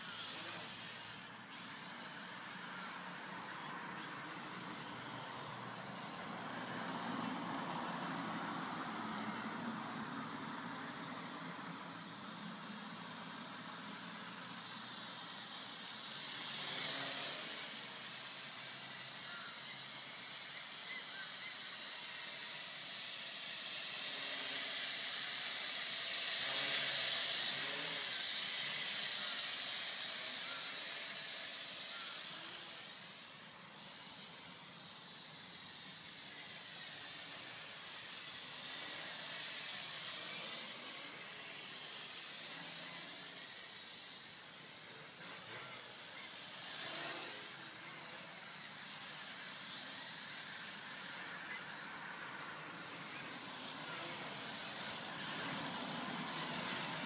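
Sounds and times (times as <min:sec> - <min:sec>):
toy quadcopter motors whining: 0:00.0 - 0:57.0.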